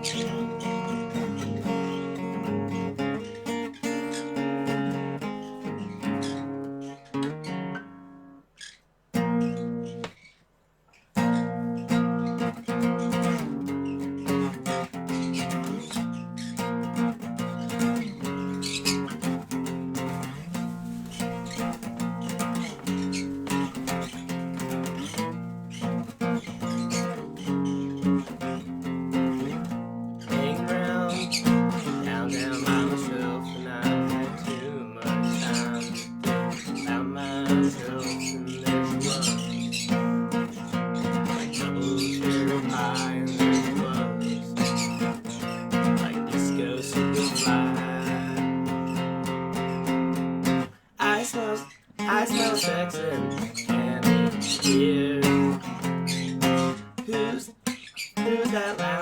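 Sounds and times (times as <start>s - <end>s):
acoustic guitar playing: 0.0s - 10.3s, 11.2s - 59.0s.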